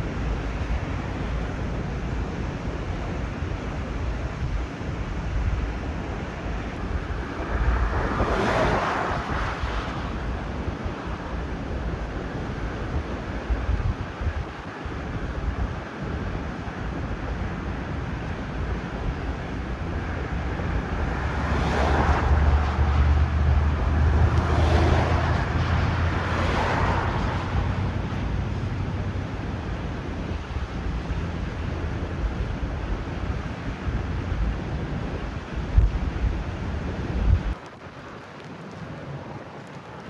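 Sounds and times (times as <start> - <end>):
wind rumbling on microphone: 0.0 - 40.0
large waves breaking: 4.8 - 40.0.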